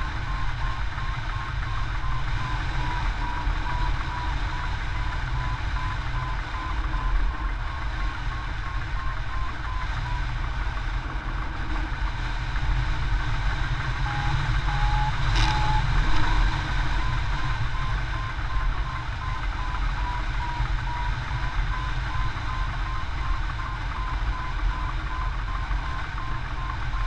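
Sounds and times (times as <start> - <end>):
variometer beeping: 0.0 - 12.0, 13.0 - 27.0.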